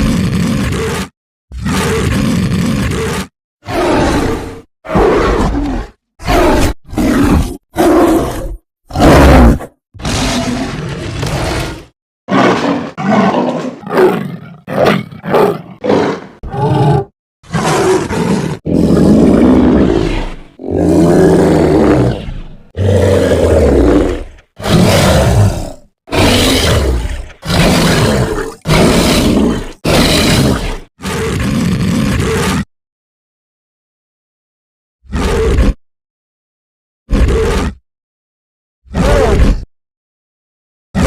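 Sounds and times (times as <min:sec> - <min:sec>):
monster roars and growls: 0:00.0 - 0:32.7, 0:35.1 - 0:35.8, 0:37.1 - 0:37.8, 0:38.9 - 0:39.7.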